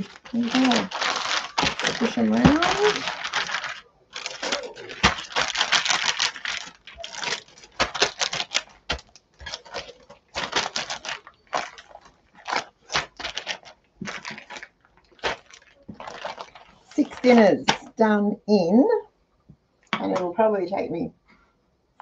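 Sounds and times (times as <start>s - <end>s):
plastic bags crinkling: 0.0s - 17.9s.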